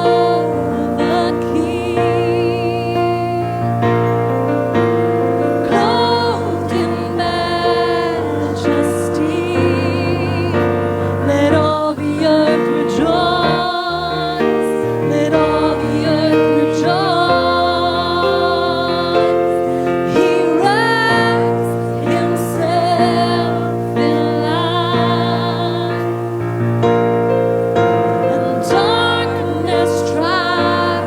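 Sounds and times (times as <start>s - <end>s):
person singing with vibrato: 0.0s - 31.0s
sustained keyboard chords: 0.0s - 31.0s.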